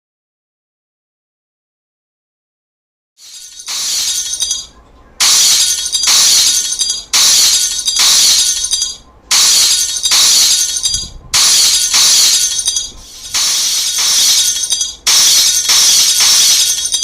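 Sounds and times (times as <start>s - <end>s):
glass shattering: 3.3s - 17.0s.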